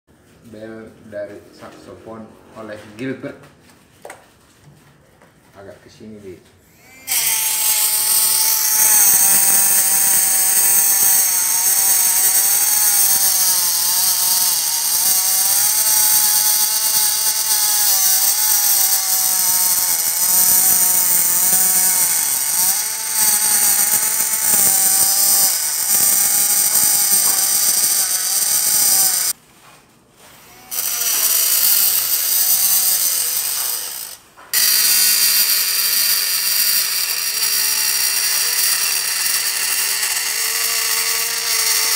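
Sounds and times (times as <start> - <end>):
bit grinding metal: 6.7 - 29.4, 30.4 - 41.9
engraving pen whining: 6.7 - 29.4, 30.4 - 41.9.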